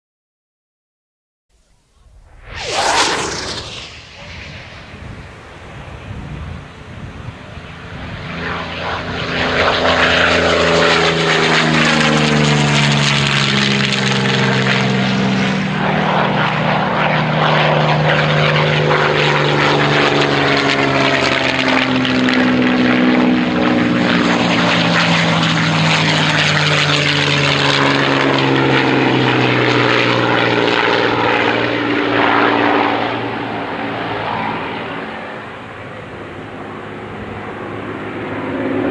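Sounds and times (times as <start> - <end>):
propeller aircraft engines passing: 1.9 - 38.9.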